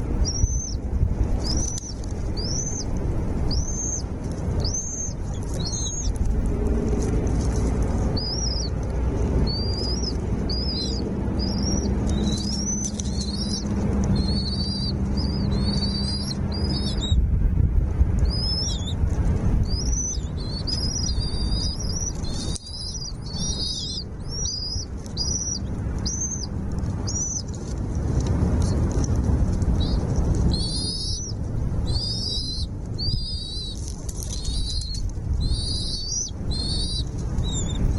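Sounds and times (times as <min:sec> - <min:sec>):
small songbirds chirping: 0:00.0 - 0:17.3, 0:18.0 - 0:37.9
low rumble: 0:00.0 - 0:37.9.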